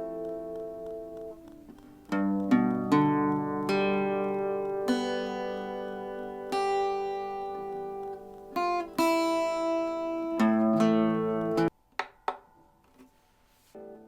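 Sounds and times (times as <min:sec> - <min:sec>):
acoustic guitar chords strummed: 0:00.0 - 0:11.7.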